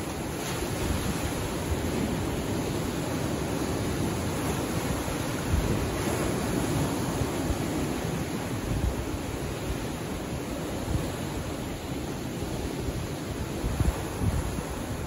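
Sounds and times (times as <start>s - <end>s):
waves washing against rocky shore: 0.0s - 15.0s.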